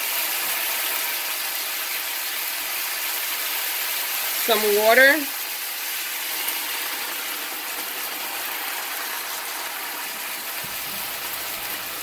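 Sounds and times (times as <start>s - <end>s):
sizzling and bubbling in skillet: 0.0s - 12.0s.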